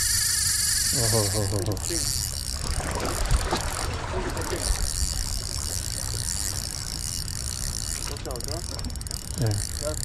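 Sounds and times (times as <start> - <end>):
fishing reel whirring: 0.0 - 10.0.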